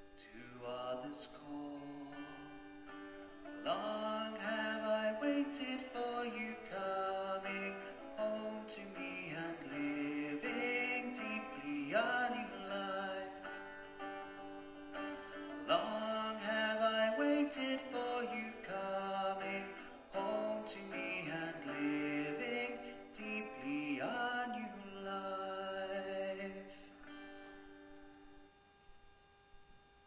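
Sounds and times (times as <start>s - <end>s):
person singing: 0.0s - 2.6s, 3.5s - 27.2s
guitar strumming: 1.7s - 28.5s.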